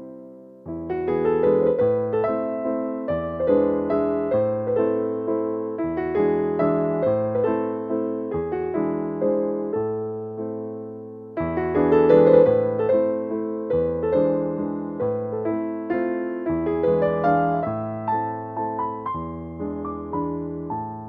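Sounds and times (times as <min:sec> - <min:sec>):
soft piano chords: 0:00.0 - 0:21.0.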